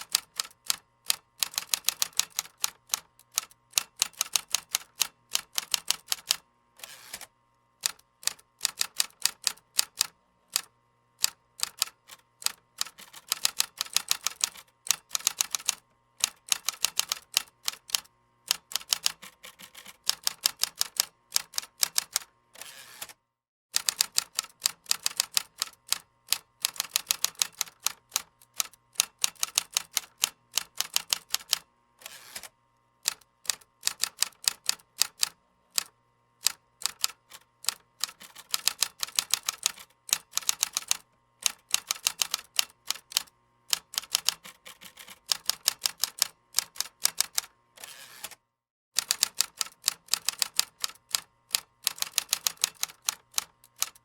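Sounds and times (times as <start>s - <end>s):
keyboard typing: 0.0s - 6.4s, 7.8s - 22.3s, 23.8s - 31.6s, 33.1s - 47.5s, 49.0s - 54.0s.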